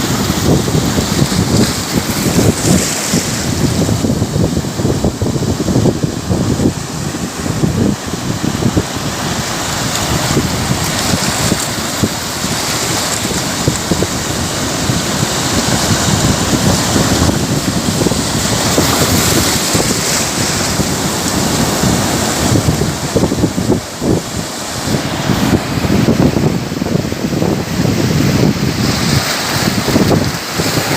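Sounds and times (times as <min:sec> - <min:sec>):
sea waves washing: 0:00.0 - 0:30.9
wind buffeting microphone: 0:00.0 - 0:30.9.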